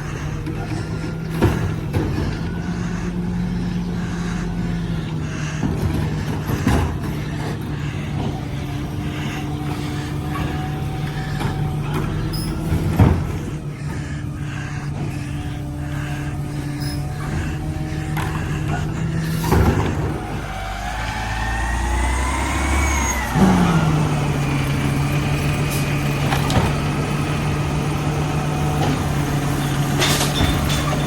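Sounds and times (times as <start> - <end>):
diesel engine running: 0.0 - 31.0
hydraulic packer compacting: 0.0 - 31.0.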